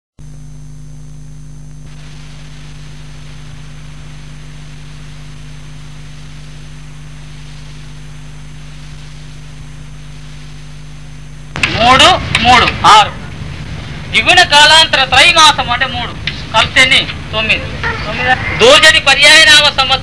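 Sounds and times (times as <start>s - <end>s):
low electrical hum: 0.2s - 20.0s
tape hiss: 0.2s - 20.0s.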